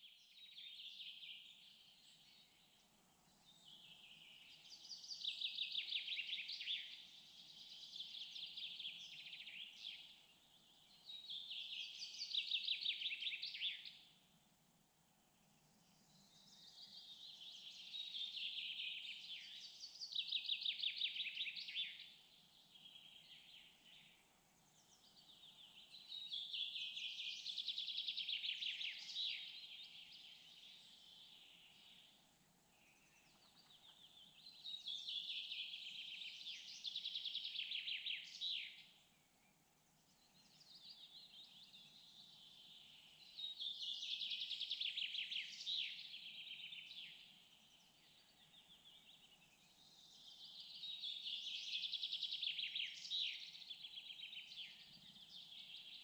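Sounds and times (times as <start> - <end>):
faint low background noise: 0.0 - 56.0.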